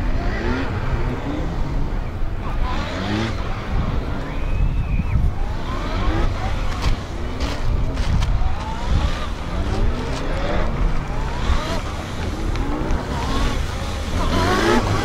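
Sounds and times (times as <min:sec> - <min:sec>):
motorcycle engine revving: 0:00.0 - 0:04.6, 0:05.2 - 0:15.0.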